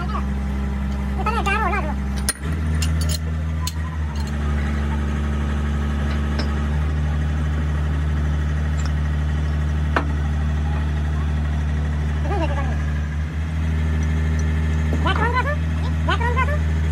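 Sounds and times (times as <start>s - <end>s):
engine humming: 0.0s - 16.9s.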